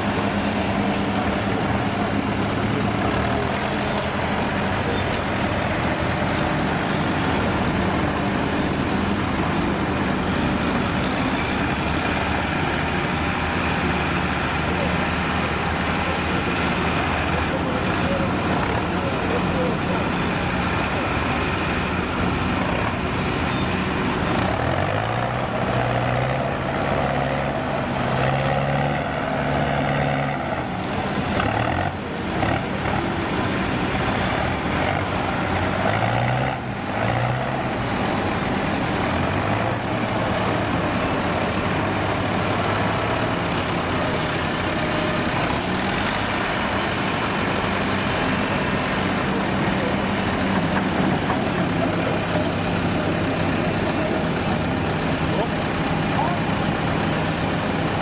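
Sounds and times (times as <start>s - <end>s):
diesel truck engine revving: 0.0s - 58.0s.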